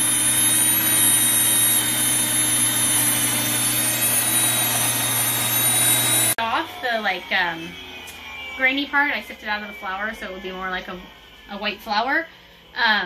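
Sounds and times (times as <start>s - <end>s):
electric grain mill grinding: 0.0s - 12.1s.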